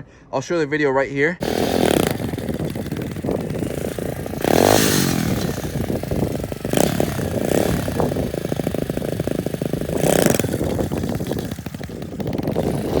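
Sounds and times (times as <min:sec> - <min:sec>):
pit bike engine revving: 0:01.4 - 0:13.0.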